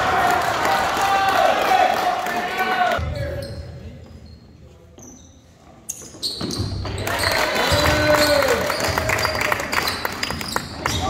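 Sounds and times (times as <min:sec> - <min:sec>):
voices echoing in hall: 0:00.0 - 0:11.0.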